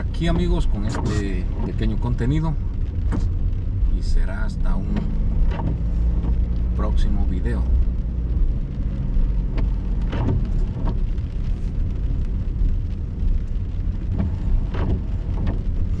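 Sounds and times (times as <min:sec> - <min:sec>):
car driving on wet pavement: 0:00.0 - 0:16.0.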